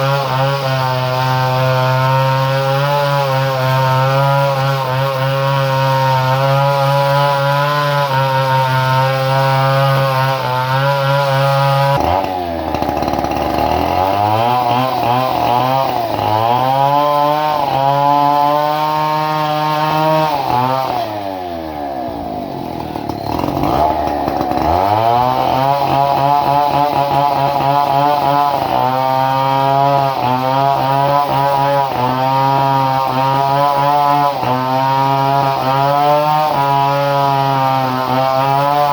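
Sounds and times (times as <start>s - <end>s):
two-stroke chainsaw engine: 0.0s - 38.9s.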